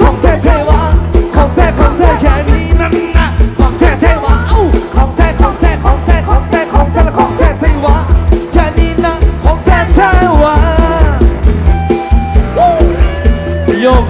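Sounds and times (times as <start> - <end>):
fast kick-drum beat: 0.0 - 14.0
pitch-bending sung melody: 0.0 - 14.0.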